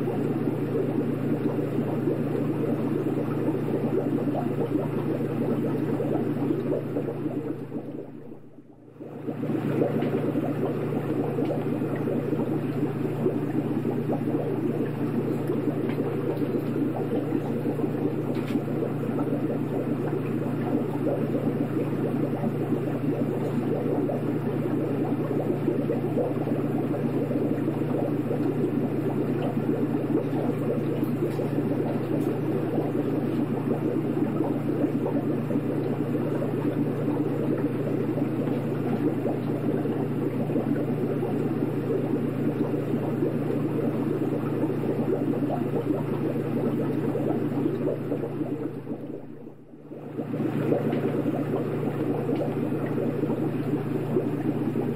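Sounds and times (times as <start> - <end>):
aquarium hum: 0.0 - 54.9
water bubbling: 0.0 - 54.9.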